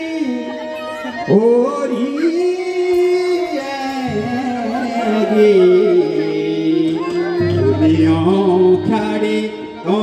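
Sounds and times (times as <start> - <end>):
musical accompaniment: 0.0 - 10.0
person singing folk song: 0.0 - 10.0.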